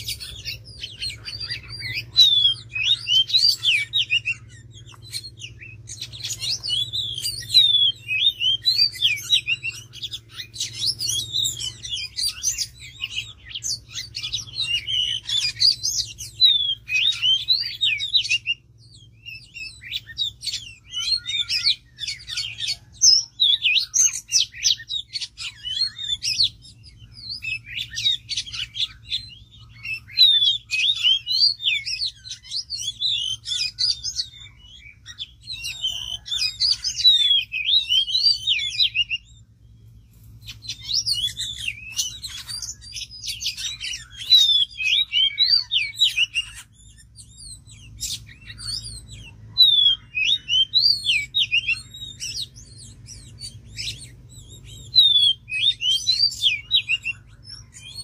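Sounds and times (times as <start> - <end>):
bird song chirps and whistles: 0.0 - 58.0.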